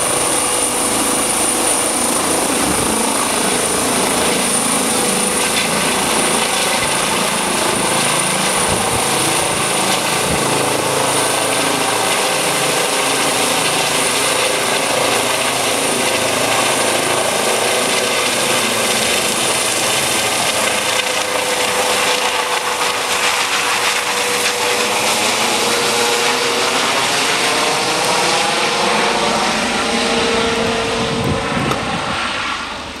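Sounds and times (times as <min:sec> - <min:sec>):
helicopter rotor and turbine noise: 0:00.0 - 0:33.0.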